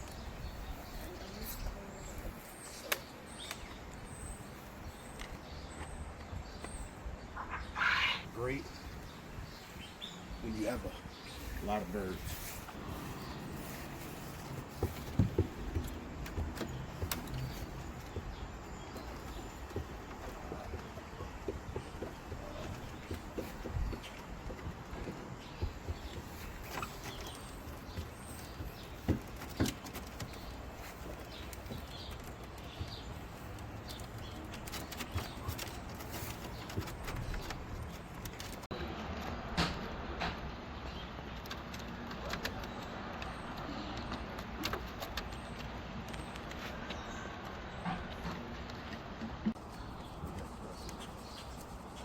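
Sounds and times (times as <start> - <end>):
quail pecking at a dish: 0.0 - 39.4, 40.4 - 52.0.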